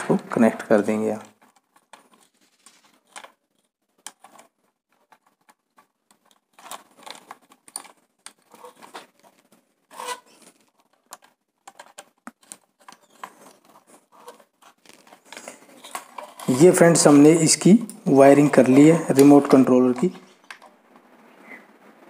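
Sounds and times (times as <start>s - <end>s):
wires rustling and clicking: 0.0s - 22.0s.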